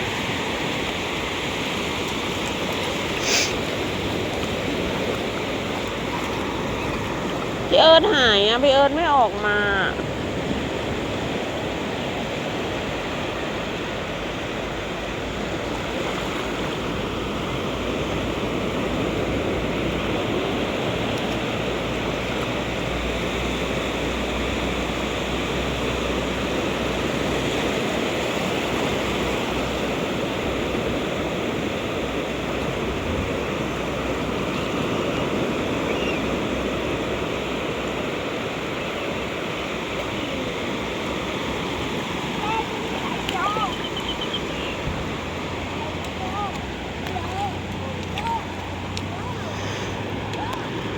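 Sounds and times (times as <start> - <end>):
sea surf washing: 0.0 - 50.9.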